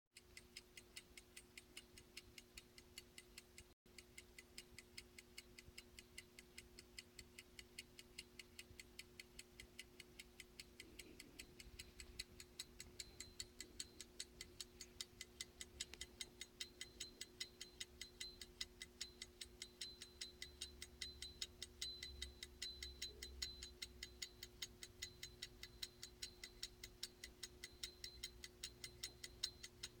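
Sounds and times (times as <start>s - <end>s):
stopwatch ticking: 0.2s - 30.0s.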